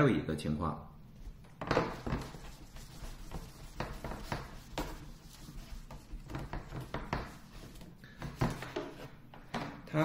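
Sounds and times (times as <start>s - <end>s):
whiteboard knocks and scrapes: 1.4s - 9.9s.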